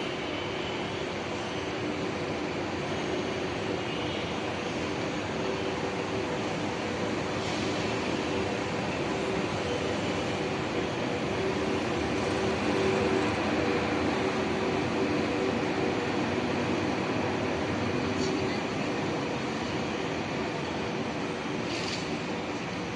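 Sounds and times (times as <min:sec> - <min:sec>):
high-speed train rushing: 0:00.0 - 0:22.9.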